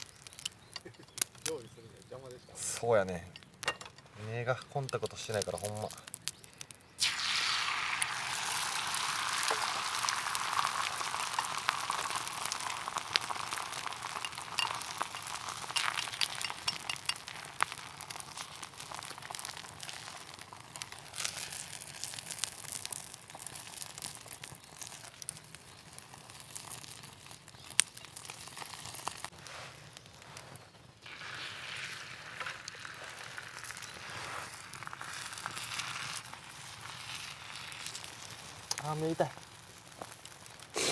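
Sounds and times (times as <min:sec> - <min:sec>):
small crackles and pops: 0:00.0 - 0:40.9
food sizzling in a pan: 0:05.1 - 0:29.4, 0:31.0 - 0:40.9.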